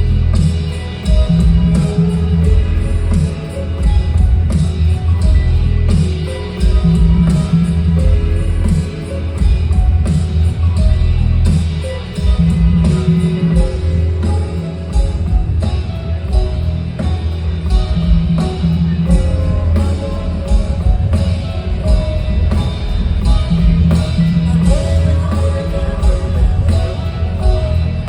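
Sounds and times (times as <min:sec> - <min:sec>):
live band playing: 0:00.0 - 0:28.0
steady drum beat: 0:00.0 - 0:28.0.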